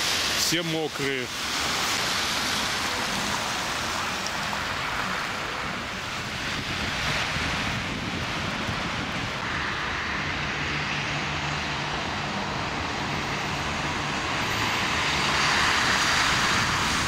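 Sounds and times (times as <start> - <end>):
car tyres hissing on wet asphalt: 0.0 - 17.0.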